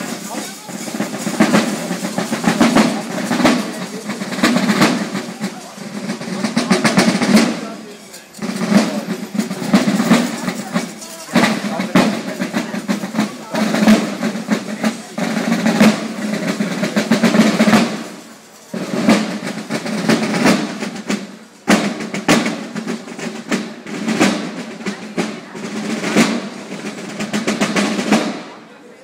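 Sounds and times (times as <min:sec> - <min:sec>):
side drums playing a march: 0:00.0 - 0:28.8.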